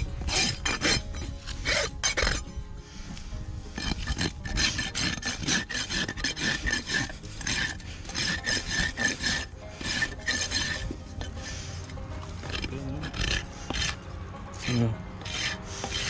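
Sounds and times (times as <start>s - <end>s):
hoof knife scraping hoof: 0.0s - 16.0s.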